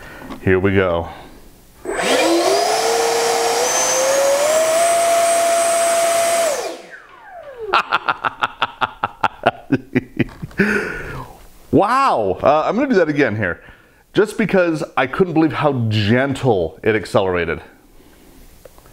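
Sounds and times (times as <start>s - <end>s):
electric ducted fan whine: 0.0s - 18.8s.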